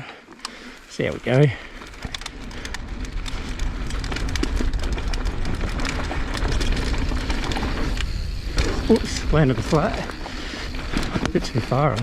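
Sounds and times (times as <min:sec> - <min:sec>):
bike rattles and clicks: 0:00.0 - 0:12.0
bike tyres on dirt: 0:00.0 - 0:12.0.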